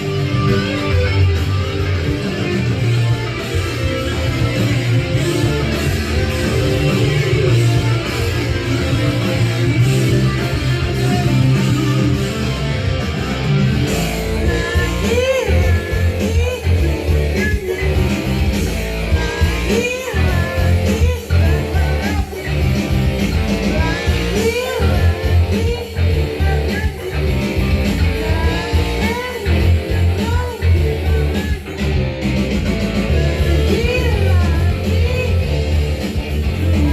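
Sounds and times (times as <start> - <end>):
bass line: 0.0 - 36.9
electric guitar phrases: 0.0 - 36.9
rock music: 0.0 - 36.9.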